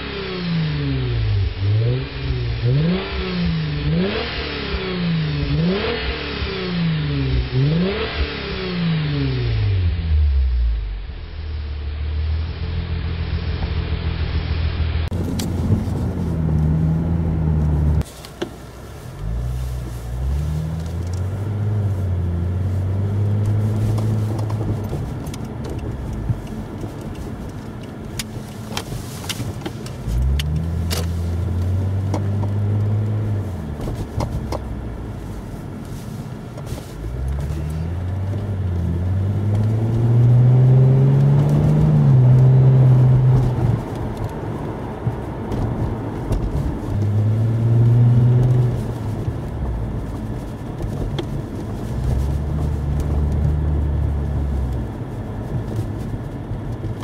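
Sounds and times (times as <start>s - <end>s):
car engine accelerating: 0.0s - 18.0s, 18.8s - 57.0s.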